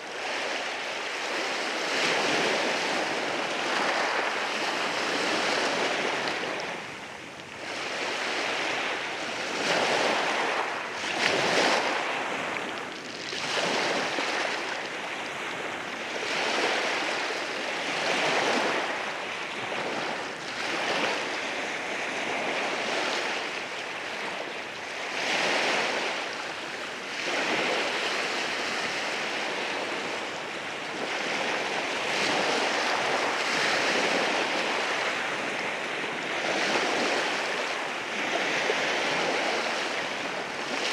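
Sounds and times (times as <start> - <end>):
sea waves washing over rocks: 0.1 - 40.9.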